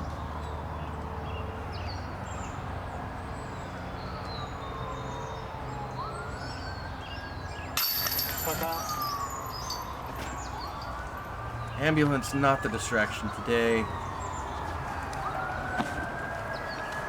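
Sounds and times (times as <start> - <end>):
ambulance siren wailing: 0.1 - 17.0.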